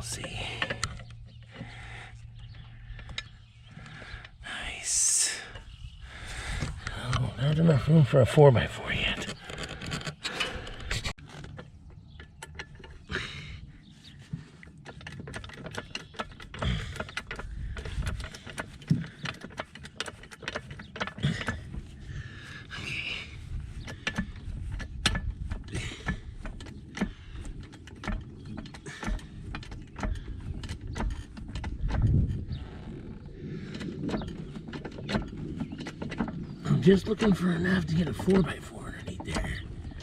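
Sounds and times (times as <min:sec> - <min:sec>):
jack metal clicks and knocks: 0:00.0 - 0:04.4, 0:08.9 - 0:13.4, 0:14.2 - 0:40.0.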